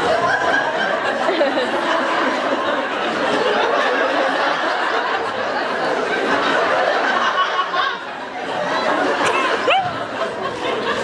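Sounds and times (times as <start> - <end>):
audience laughing and chattering: 0.0 - 11.0.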